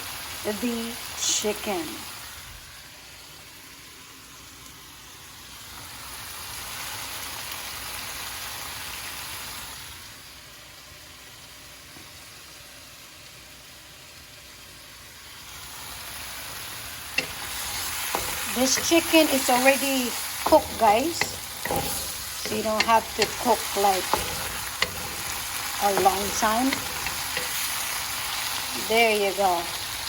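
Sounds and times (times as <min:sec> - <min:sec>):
vegetables sizzling in a pan: 0:00.0 - 0:30.0.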